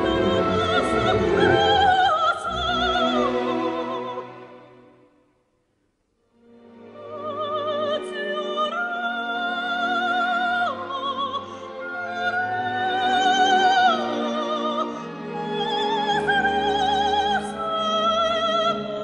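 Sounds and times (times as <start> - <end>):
soprano singing with vibrato: 0.0 - 4.7, 6.8 - 19.0.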